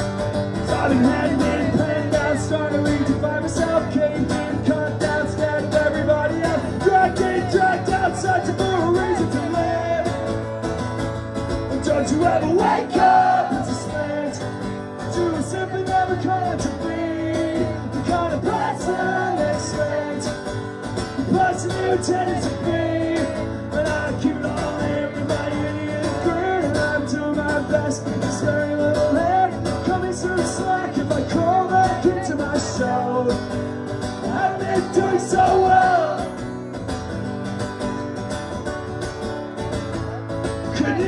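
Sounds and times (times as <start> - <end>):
strummed acoustic guitar: 0.0 - 41.0
man singing: 0.5 - 10.6, 11.7 - 36.3, 40.6 - 41.0.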